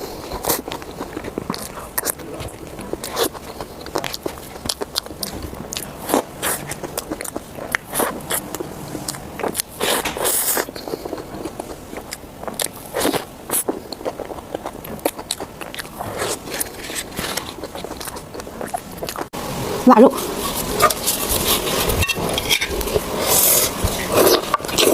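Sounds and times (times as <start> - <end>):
person chewing crunchy food: 0.0 - 19.4, 20.4 - 24.9.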